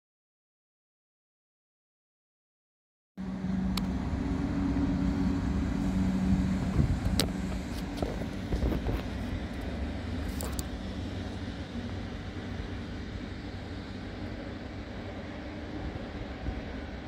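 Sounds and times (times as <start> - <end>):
electric train passing: 3.2 - 17.0.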